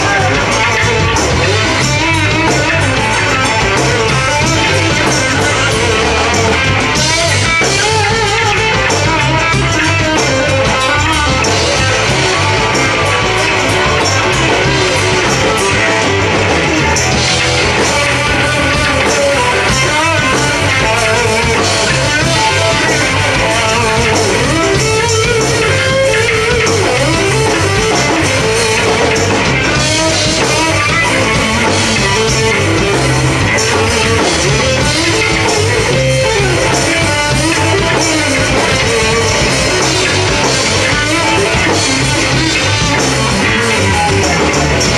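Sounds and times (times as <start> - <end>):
drum kit: 0.0 - 44.9
electric guitar: 0.0 - 44.9.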